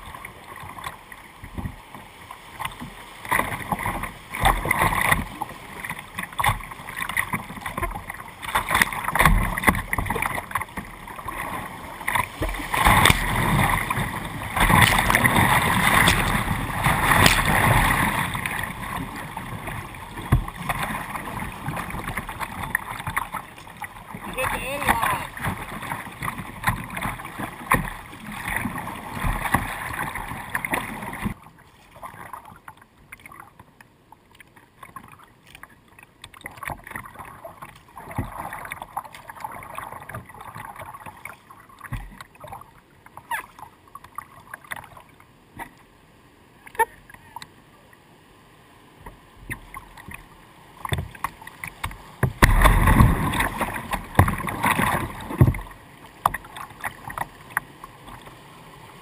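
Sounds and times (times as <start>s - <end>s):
paddle splashes: 0.0s - 59.0s
water rushing against kayak: 0.0s - 59.0s.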